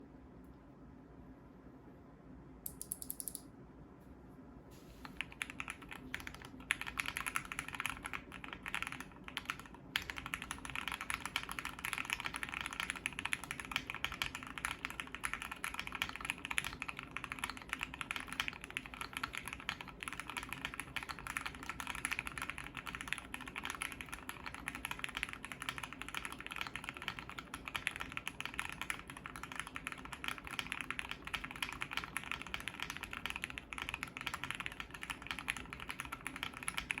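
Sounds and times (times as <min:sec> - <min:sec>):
fast mechanical keyboard typing: 0:05.1 - 0:37.0.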